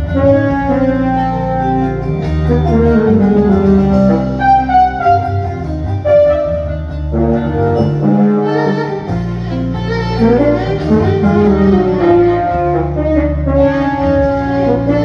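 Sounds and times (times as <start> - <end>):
bass guitar: 0.0 - 15.0
drums: 0.0 - 15.0
violin melody: 0.0 - 15.0.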